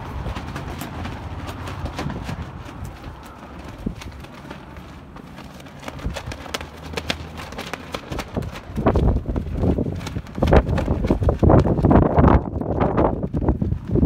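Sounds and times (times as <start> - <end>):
footsteps on gravel: 0.0 - 11.7
wind buffeting microphone: 0.0 - 14.0.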